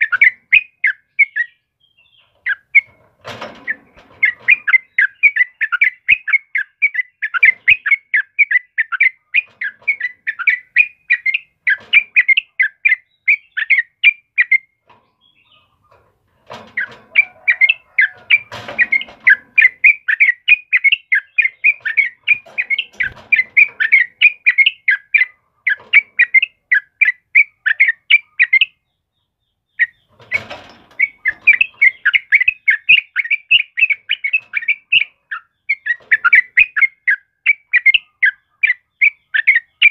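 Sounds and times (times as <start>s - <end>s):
bird singing rapid notes: 0.0s - 16.0s, 16.6s - 39.9s.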